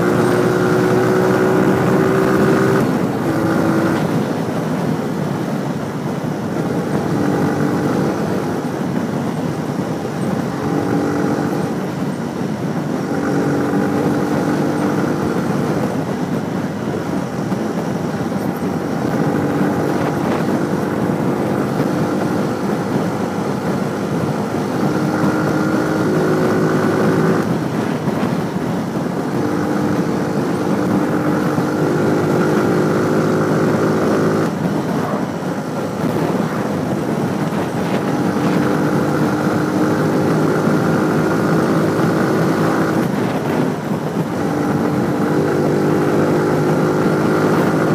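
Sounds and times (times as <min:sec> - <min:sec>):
motorcycle engine: 0:00.0 - 0:47.9
wind rush: 0:00.0 - 0:47.9.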